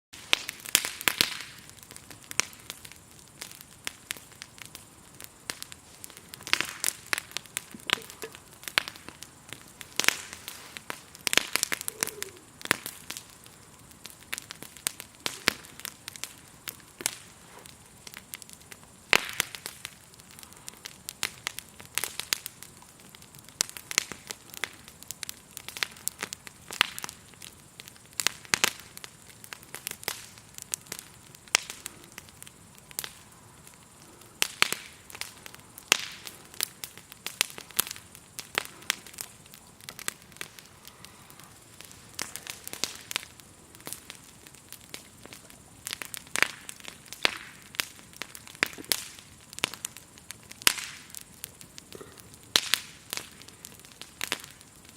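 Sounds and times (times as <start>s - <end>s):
campfire crackling and popping: 0.1s - 54.9s
grasshoppers chirring: 1.8s - 54.9s.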